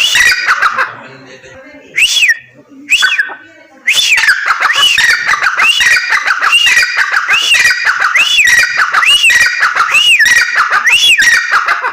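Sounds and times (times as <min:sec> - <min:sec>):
francolin calling harshly: 0:00.0 - 0:00.8, 0:03.0 - 0:11.9.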